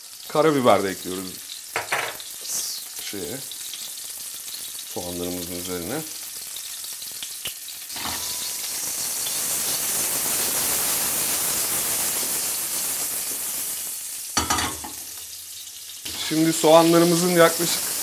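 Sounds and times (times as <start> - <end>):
onions sizzling in a frying pan: 0.0 - 18.0.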